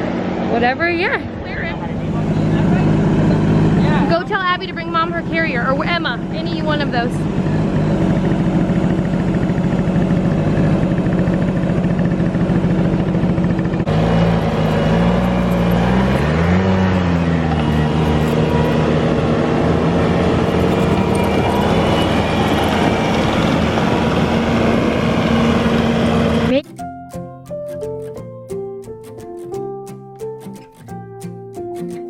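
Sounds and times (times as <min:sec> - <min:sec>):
skid steer engine running: 0:00.0 - 0:26.6.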